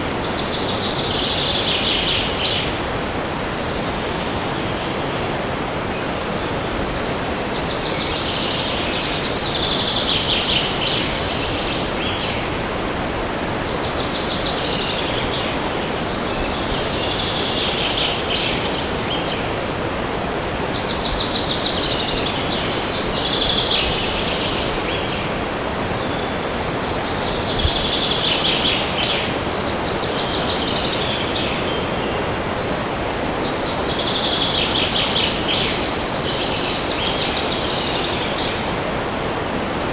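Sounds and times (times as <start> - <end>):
wind through trees: 0.0 - 39.9.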